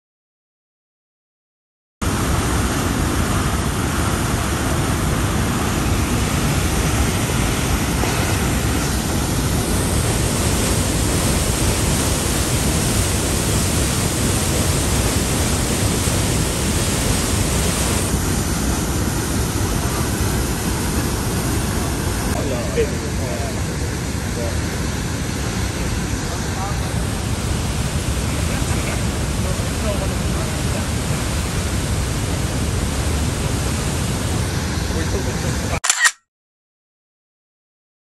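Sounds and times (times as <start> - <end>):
white water rushing: 2.0 - 35.8.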